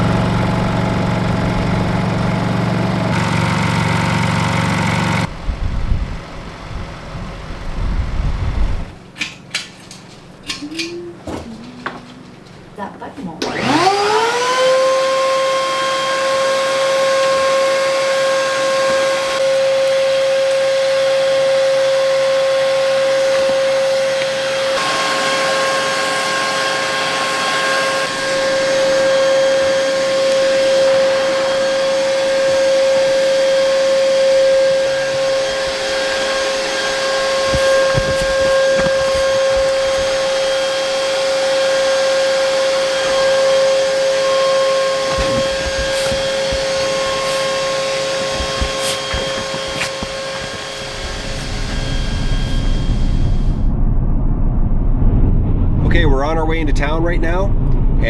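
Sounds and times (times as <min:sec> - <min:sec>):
portable generator humming: 0:00.0 - 0:09.0, 0:10.6 - 0:53.7.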